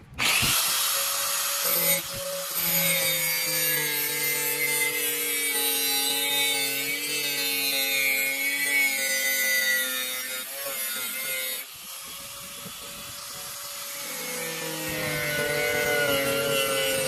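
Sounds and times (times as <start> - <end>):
grinder cutting steel hiss: 0.0 - 17.0
angle grinder motor whine: 0.2 - 8.8, 11.6 - 17.0.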